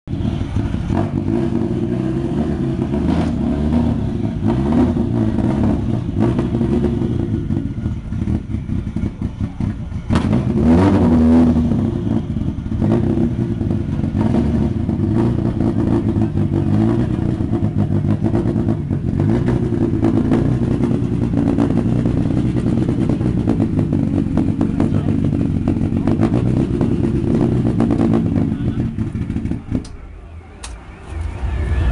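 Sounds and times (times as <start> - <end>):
car engine revving: 0.1 - 31.9.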